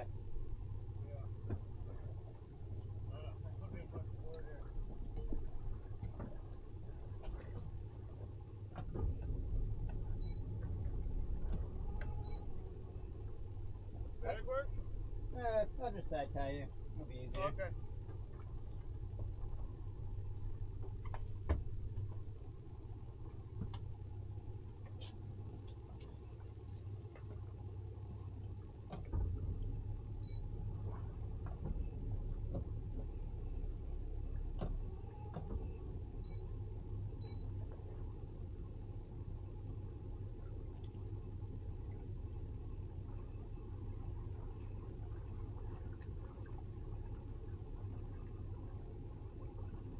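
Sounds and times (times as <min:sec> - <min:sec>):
outboard engine running at low speed: 0:00.0 - 0:49.9.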